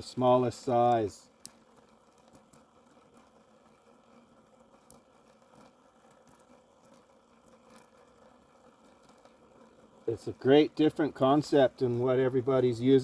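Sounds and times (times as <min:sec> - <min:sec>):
twig fire crackling: 0:00.0 - 0:13.0.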